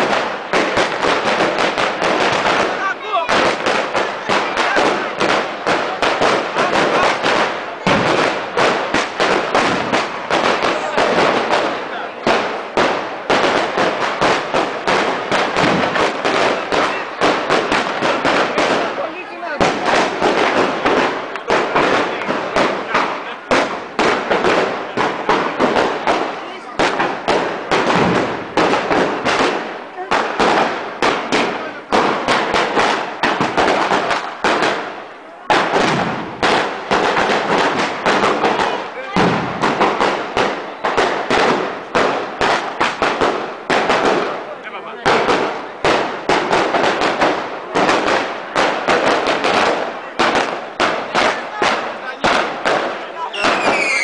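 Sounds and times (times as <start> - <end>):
firecrackers exploding: 0.0 - 54.0.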